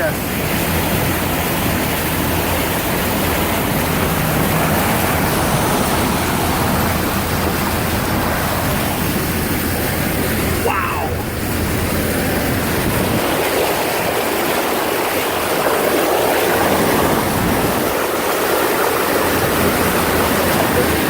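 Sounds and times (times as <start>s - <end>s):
vehicle splashing through floodwater: 0.0s - 21.0s.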